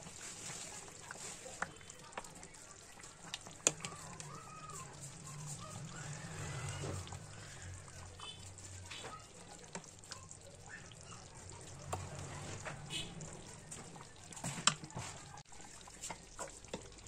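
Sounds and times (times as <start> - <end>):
thick gravy sloshing and simmering: 0.0 - 17.0.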